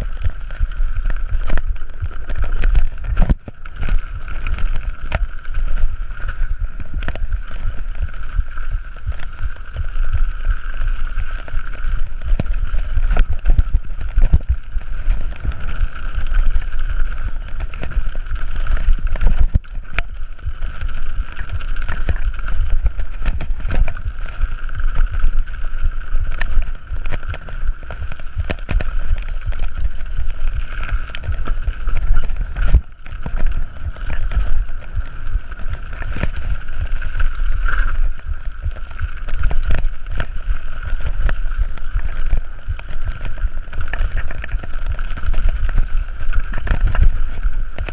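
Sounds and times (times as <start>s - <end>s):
bike rattling over bumps: 0.0s - 47.9s
wind buffeting microphone: 0.0s - 47.9s.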